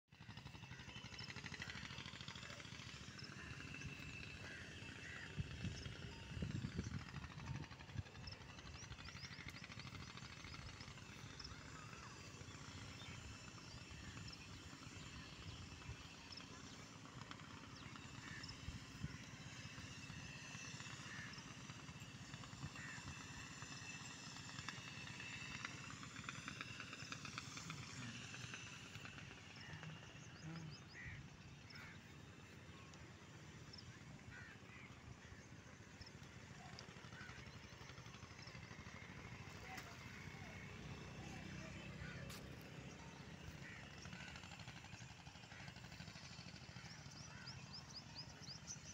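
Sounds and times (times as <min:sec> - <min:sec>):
low steady rumble: 0:00.2 - 0:48.9.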